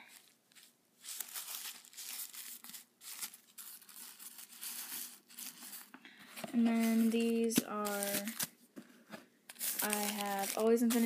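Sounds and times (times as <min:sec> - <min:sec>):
plastic wrapper crinkling: 0:00.0 - 0:08.6, 0:09.5 - 0:11.0.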